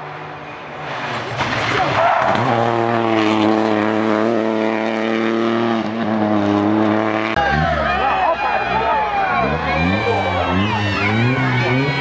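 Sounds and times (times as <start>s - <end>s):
rally car engine under load: 0.0s - 12.0s.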